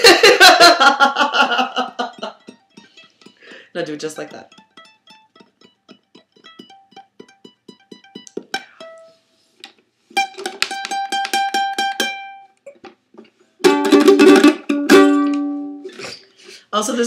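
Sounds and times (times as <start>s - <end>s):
ukulele playing: 1.7s - 16.0s.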